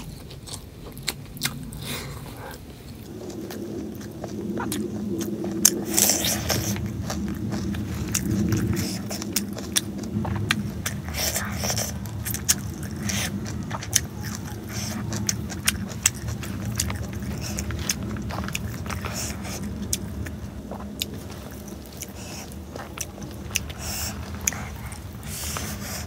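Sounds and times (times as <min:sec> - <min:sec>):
chewing and lip-smacking: 0:00.0 - 0:26.0
steady low hum: 0:00.0 - 0:26.0.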